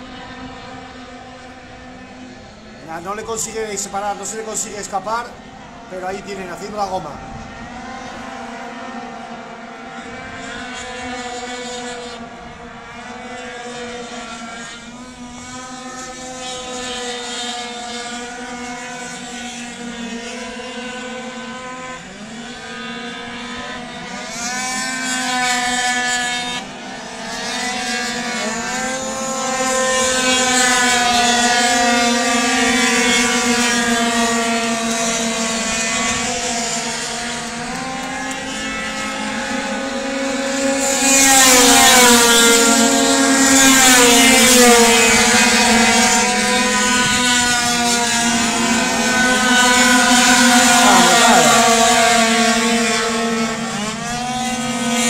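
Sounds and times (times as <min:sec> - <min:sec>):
scooter engines whining: 0:00.0 - 0:55.0.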